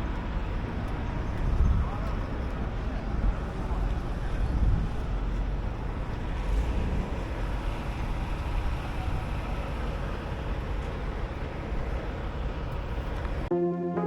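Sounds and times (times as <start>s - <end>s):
truck engine and road rumble: 0.0s - 13.5s.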